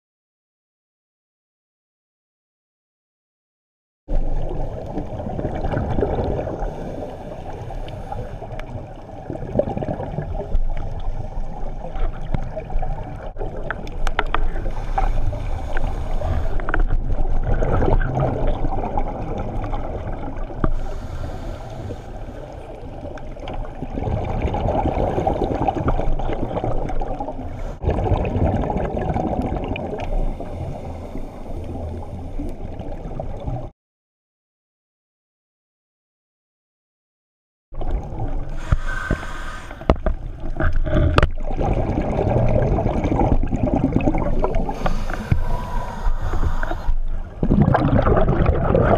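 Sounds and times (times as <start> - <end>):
underwater bubbles gurgling: 4.1 - 33.7, 37.8 - 48.9.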